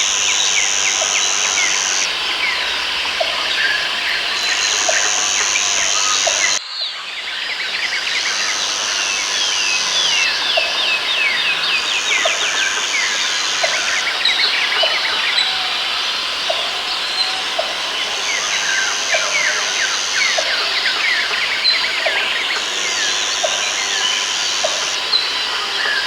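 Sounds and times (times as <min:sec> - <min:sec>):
birds chirping: 0:00.0 - 0:26.0
high insect drone: 0:00.0 - 0:26.0.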